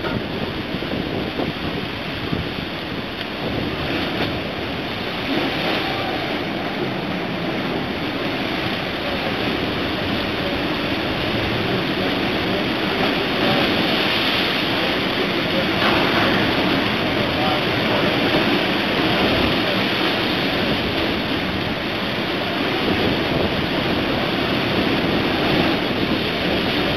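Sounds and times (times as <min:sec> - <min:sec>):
waves breaking and churning: 0:00.0 - 0:26.9
wind buffeting microphone: 0:00.0 - 0:26.9.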